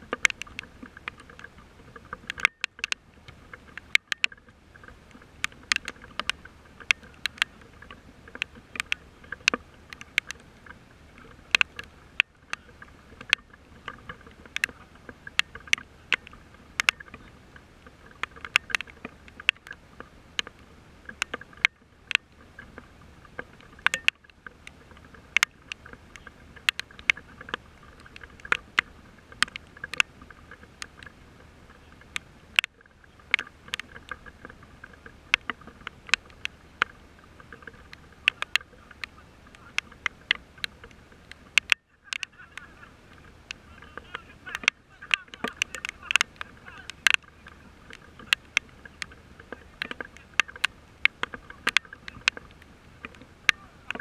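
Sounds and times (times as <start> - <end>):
faint background noise: 0.0 - 54.0
raindrops tapping: 0.0 - 54.0.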